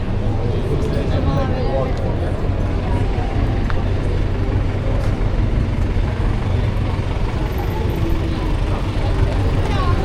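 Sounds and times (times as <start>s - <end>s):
low rumble of motor traffic: 0.0s - 10.0s.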